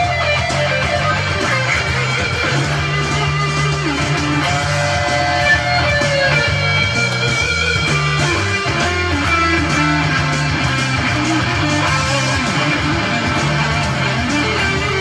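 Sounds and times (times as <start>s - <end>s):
electric guitar melody: 0.0s - 15.0s
low bass line: 0.0s - 15.0s.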